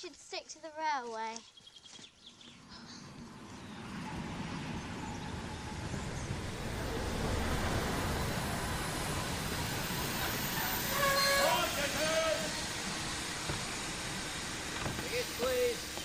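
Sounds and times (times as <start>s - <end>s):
steam locomotive rumbling: 2.8s - 16.0s.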